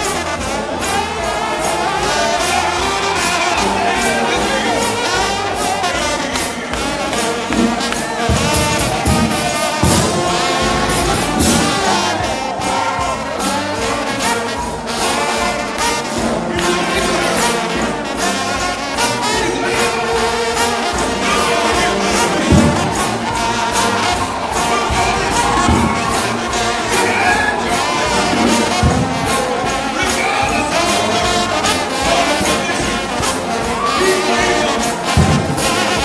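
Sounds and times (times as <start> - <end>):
percussion beat: 0.0 - 36.0
trombones playing in harmony: 0.0 - 36.0.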